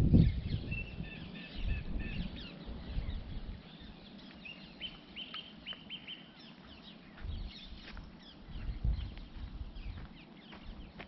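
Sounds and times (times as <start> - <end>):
songbirds chirping and singing: 0.0 - 11.0.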